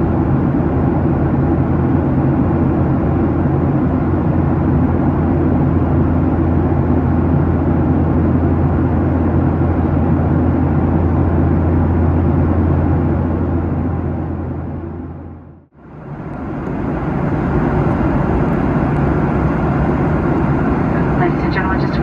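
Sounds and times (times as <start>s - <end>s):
jet engine drone: 0.0s - 22.0s.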